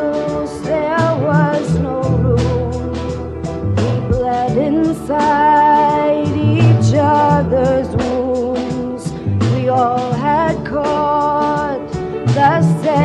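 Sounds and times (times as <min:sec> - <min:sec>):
acoustic guitar: 0:00.0 - 0:13.0
bass line: 0:00.0 - 0:13.0
woman singing: 0:00.0 - 0:13.0.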